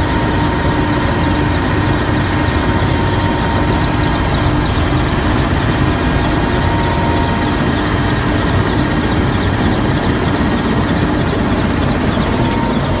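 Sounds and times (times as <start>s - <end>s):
faint steady tones: 0.0s - 13.0s
helicopter engine and rotor drone: 0.0s - 13.0s.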